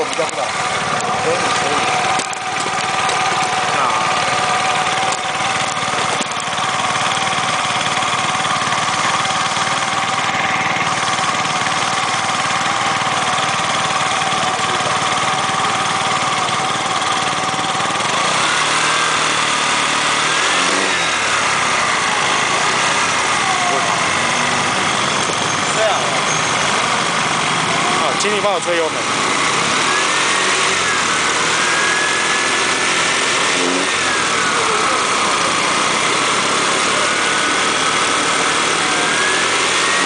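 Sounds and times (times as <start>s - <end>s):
car engine idling: 0.0s - 40.0s
engine whine: 0.0s - 40.0s.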